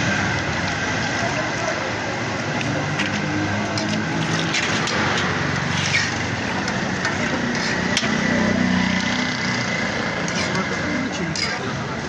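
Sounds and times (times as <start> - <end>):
frying in hot oil sizzling: 0.0 - 11.7.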